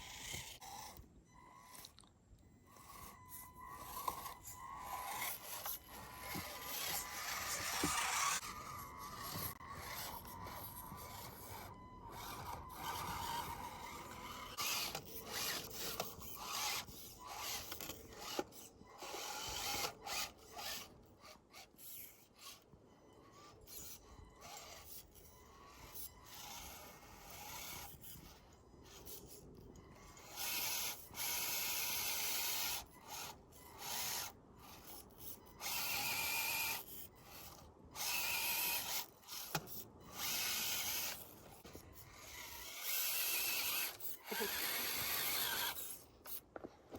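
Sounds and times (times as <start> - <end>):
toy car motor whirring: 0.0 - 46.9.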